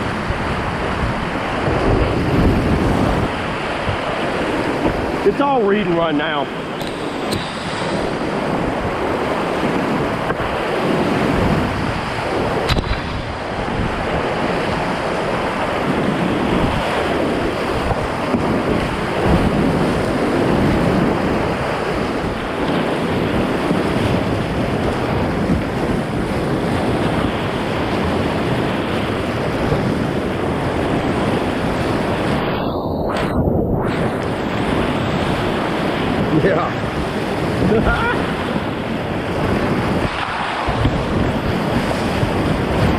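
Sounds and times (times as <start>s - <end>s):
creek rapid rushing: 0.0s - 42.9s.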